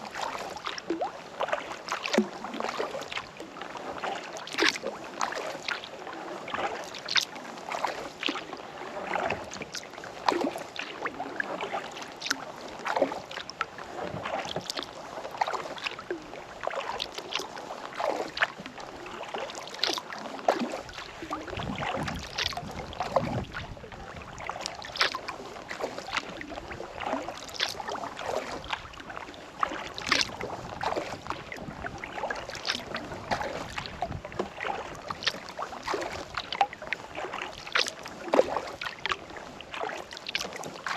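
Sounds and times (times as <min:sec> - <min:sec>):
paddle splashing through water: 0:00.0 - 0:40.9.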